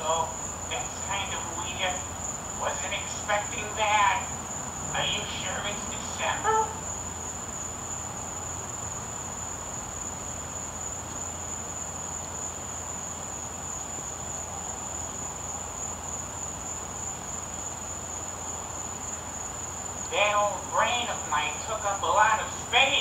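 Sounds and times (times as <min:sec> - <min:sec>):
crickets trilling: 0:00.0 - 0:23.0
low steady hum: 0:00.0 - 0:23.0.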